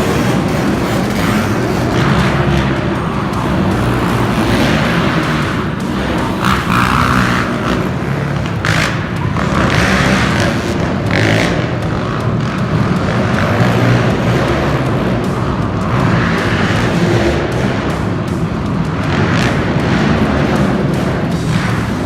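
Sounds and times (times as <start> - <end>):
monster truck engine surging: 0.0 - 22.0.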